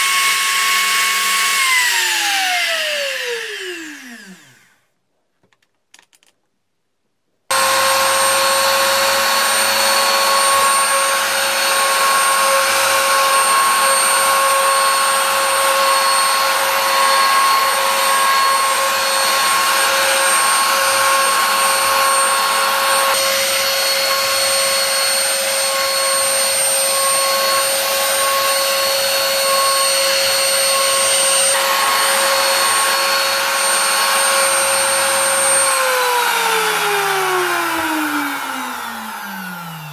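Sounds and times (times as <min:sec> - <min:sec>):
router bit carving wood: 0:00.0 - 0:04.9, 0:07.5 - 0:39.9
wood router whining: 0:00.0 - 0:05.0, 0:07.5 - 0:39.9.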